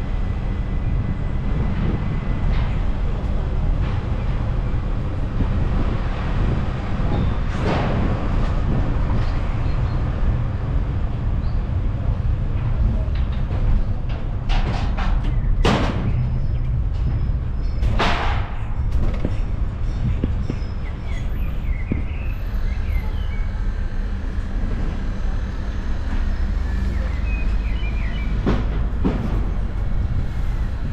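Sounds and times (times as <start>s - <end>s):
train rumbling: 0.0s - 30.9s.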